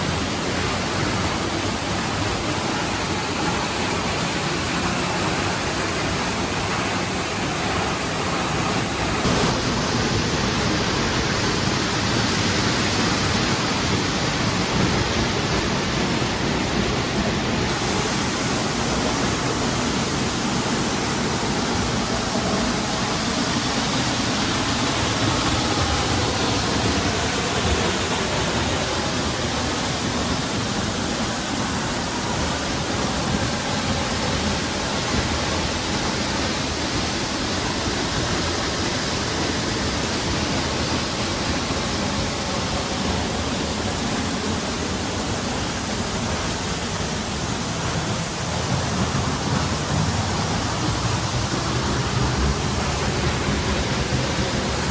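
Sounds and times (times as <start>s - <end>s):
rush of falling water: 0.0s - 54.9s.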